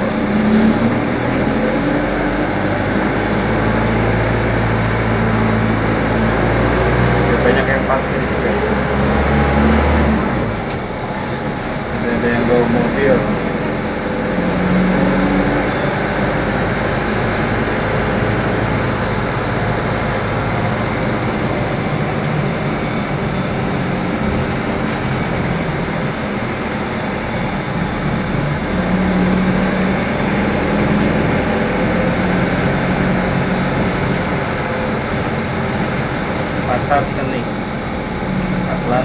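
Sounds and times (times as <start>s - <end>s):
bus engine hum: 0.0s - 39.0s
road noise inside bus: 0.0s - 39.0s.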